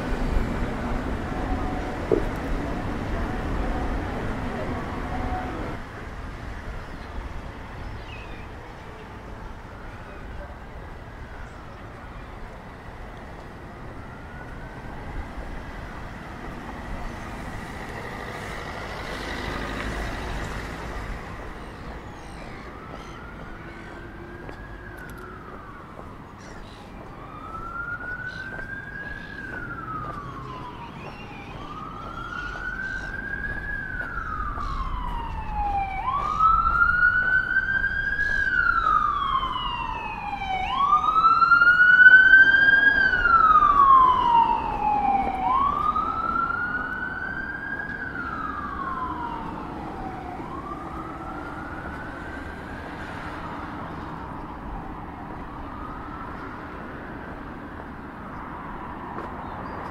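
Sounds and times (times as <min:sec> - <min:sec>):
emergency siren wailing: 0:00.0 - 0:05.9, 0:08.4 - 0:59.3
street noise: 0:00.0 - 0:59.9.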